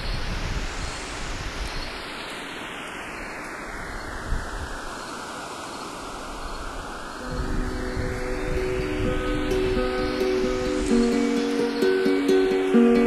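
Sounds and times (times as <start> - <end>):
filter-swept surf-like noise: 0.0 - 13.0.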